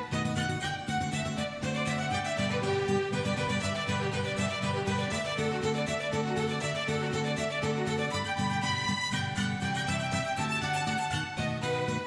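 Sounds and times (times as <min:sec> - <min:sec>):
instrumental music with regular pulse: 0:00.0 - 0:12.0.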